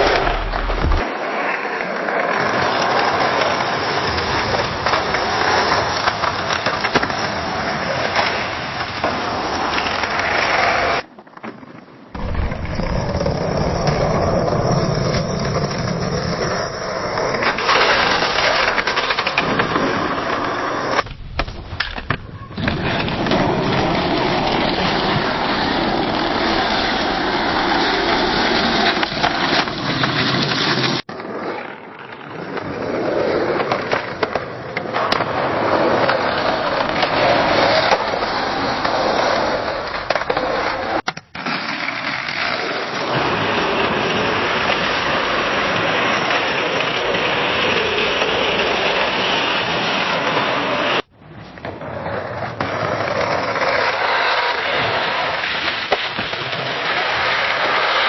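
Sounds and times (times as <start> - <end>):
skateboard wheels rolling on pavement: 0.0 - 58.0.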